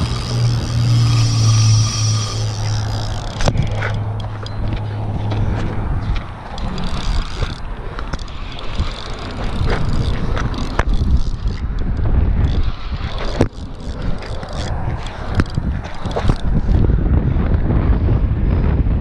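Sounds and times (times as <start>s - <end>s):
fishing reel clicks and knocks: 0.0s - 16.9s
wind rumbling on microphone: 0.0s - 19.0s.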